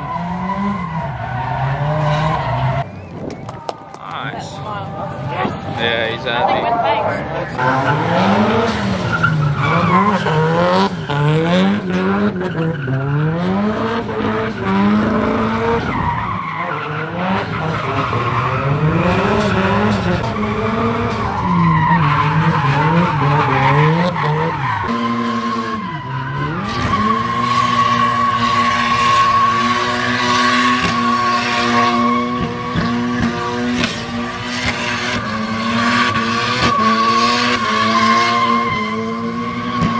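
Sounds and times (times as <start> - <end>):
car engine revving: 0.0 - 39.9
tyres squealing and skidding: 0.0 - 39.9.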